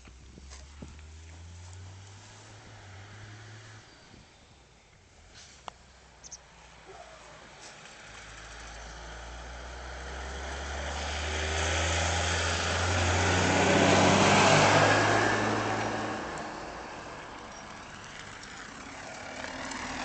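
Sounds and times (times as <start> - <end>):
vehicle driving past: 0.6 - 4.4, 7.5 - 20.0.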